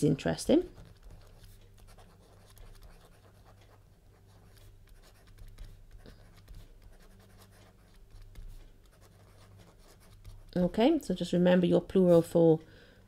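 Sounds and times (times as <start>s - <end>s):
low steady hum: 0.0s - 13.0s
stylus scratching on a tablet: 0.2s - 11.0s.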